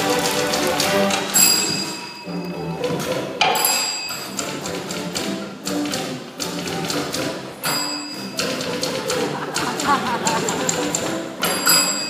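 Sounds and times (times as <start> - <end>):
string ensemble playing: 0.0 - 12.0.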